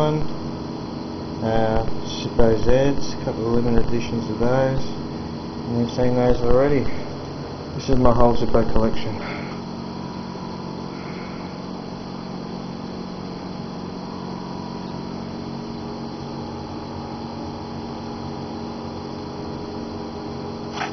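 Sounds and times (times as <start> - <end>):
steady hum and hiss: 0.0 - 20.9.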